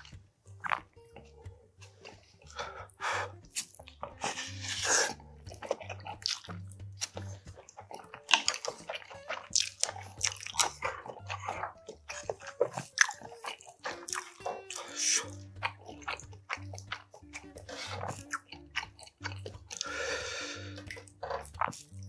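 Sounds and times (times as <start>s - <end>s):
chewing with wet crunches: 0.0s - 22.0s.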